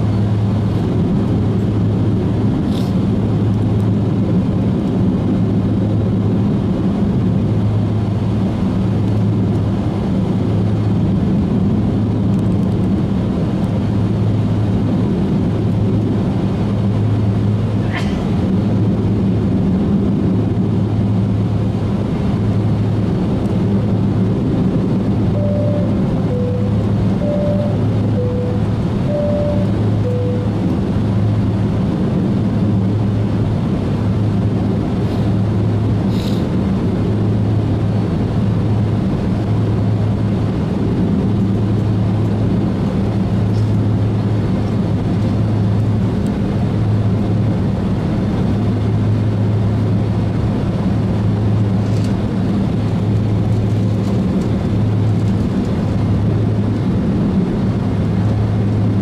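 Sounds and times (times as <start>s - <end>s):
jet cabin engine hum: 0.0s - 59.0s.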